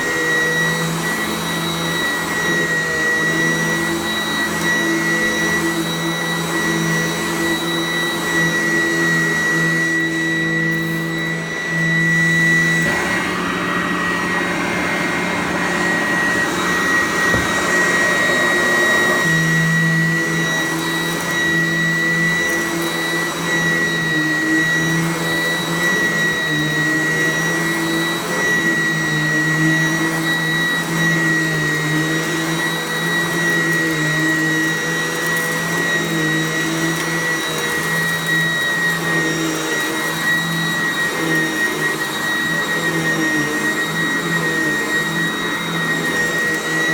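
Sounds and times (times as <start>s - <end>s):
upright vacuum cleaner running: 0.0s - 46.9s.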